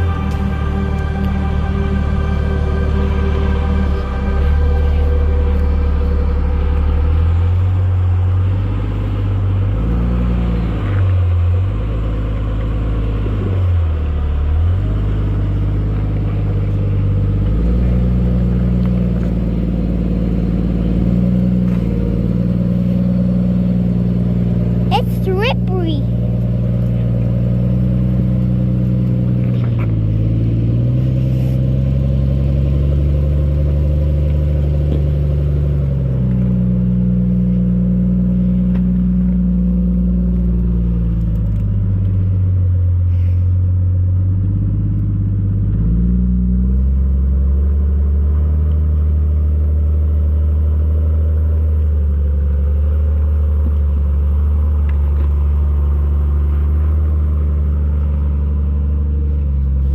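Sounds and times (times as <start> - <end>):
engine running at low speed: 0.0 - 59.9.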